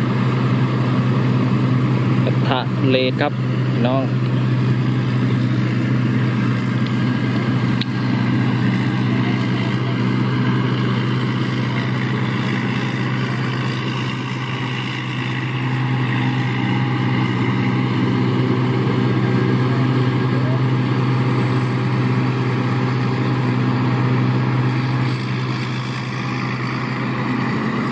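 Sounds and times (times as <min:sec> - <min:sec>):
engine idling: 0:00.0 - 0:27.9.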